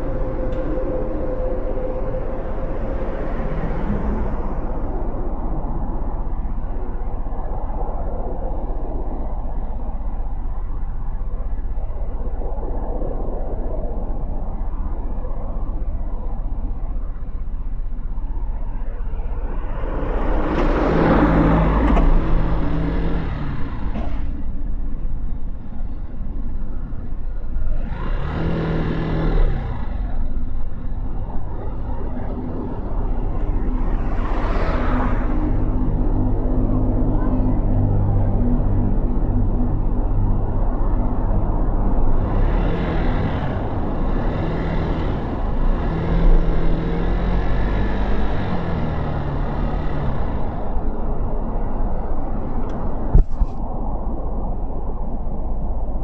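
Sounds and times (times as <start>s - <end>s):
motorcycle engine and road rumble: 0.0s - 56.0s
wind noise: 0.0s - 56.0s.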